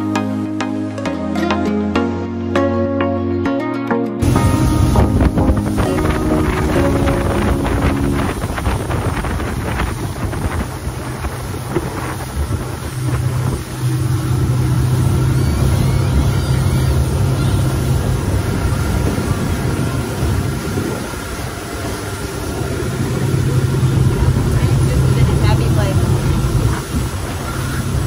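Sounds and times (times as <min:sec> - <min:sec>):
motorboat engine humming: 0:04.2 - 0:28.0
wind buffeting microphone: 0:04.2 - 0:28.0.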